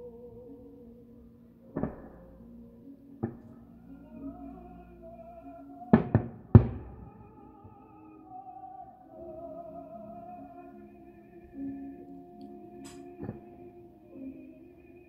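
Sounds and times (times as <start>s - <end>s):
music with long held notes: 0.0s - 15.0s.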